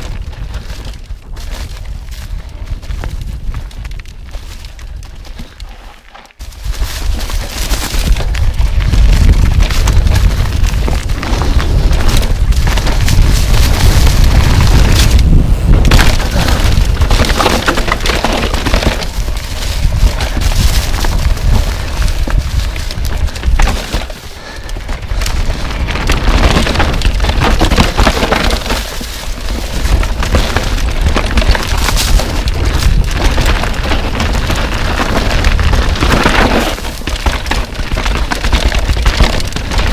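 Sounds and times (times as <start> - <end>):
wind buffeting microphone: 0.0 - 5.6, 6.4 - 36.5
bike rattling: 0.0 - 39.9.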